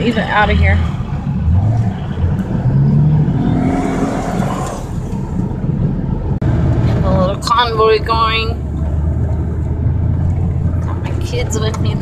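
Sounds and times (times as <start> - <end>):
pickup truck engine accelerating: 0.0 - 12.0
road noise inside cab: 0.0 - 12.0.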